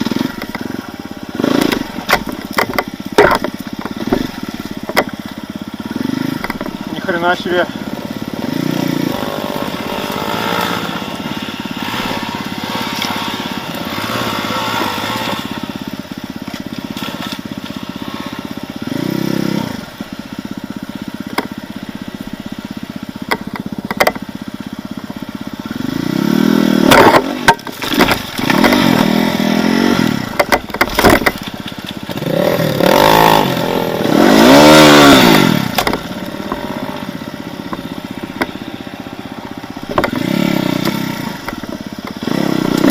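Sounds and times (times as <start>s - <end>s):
vehicle hitting branches: 0.0s - 20.2s, 25.8s - 42.9s
off-road vehicle engine revving: 0.0s - 42.9s.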